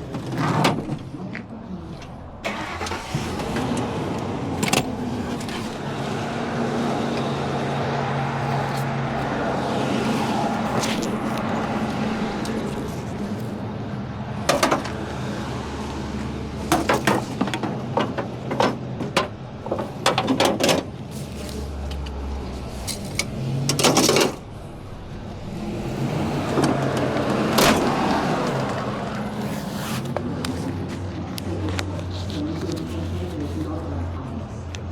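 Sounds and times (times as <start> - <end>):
vehicle engine idling: 1.0 - 34.9.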